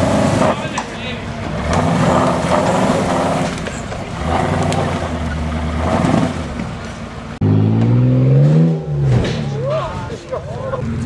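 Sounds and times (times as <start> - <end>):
engine at higher revs: 0.0 - 9.6
buggy engine under load: 0.0 - 11.0.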